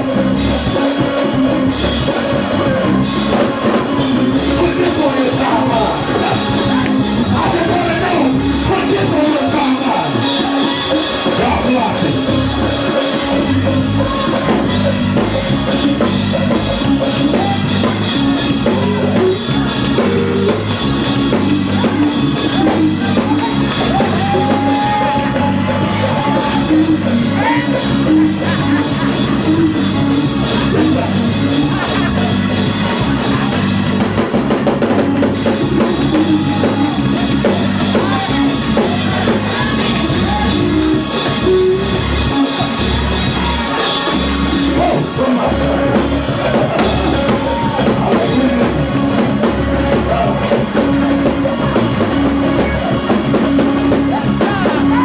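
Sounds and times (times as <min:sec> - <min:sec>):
drum kit and bass beat: 0:00.0 - 0:55.0
voices singing: 0:00.0 - 0:55.0.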